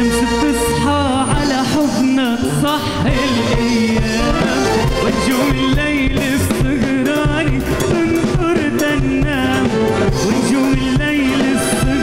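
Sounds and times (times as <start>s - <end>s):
drums: 0.0s - 12.0s
man singing with band: 0.0s - 12.0s.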